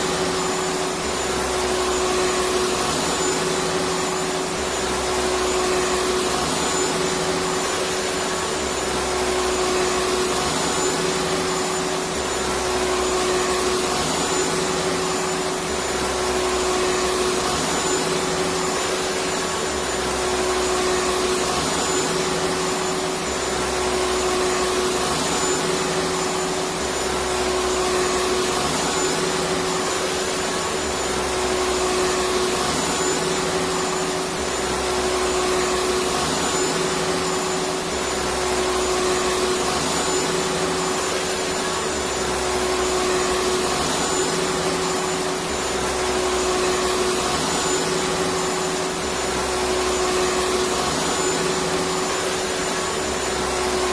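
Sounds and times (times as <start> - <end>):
vacuum cleaner motor whining: 0.0 - 53.9.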